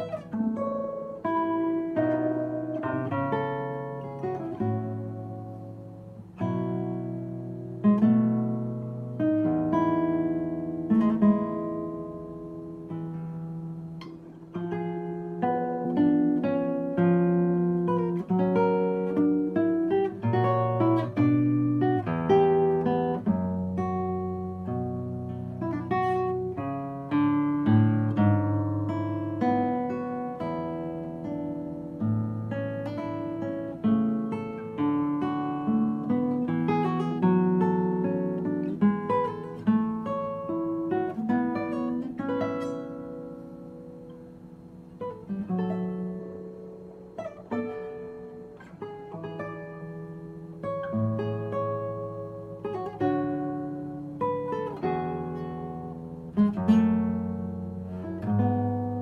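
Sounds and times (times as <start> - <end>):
classical guitar fingerstyle: 0.0 - 59.0.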